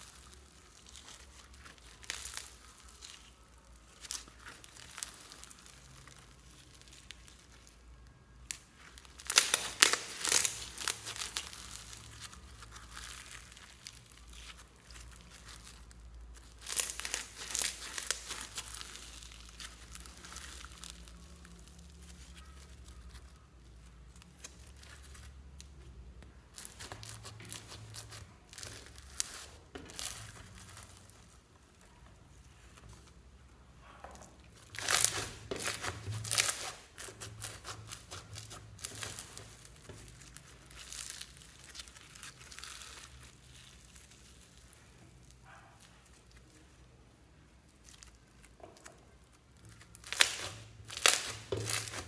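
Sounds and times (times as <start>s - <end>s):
slime crackling when squeezed: 0.0s - 52.0s.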